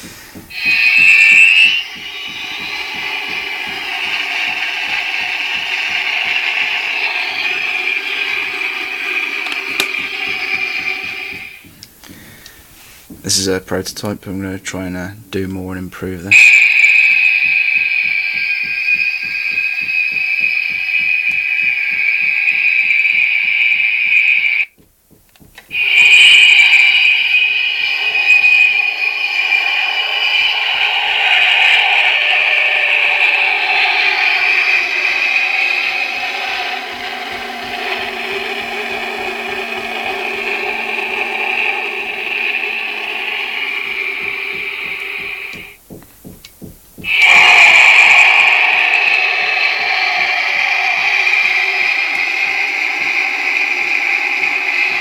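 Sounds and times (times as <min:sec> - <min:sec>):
high-pitched jet howl through speaker: 0:00.0 - 0:12.5, 0:13.1 - 0:24.7, 0:25.7 - 0:45.8, 0:47.0 - 0:55.0.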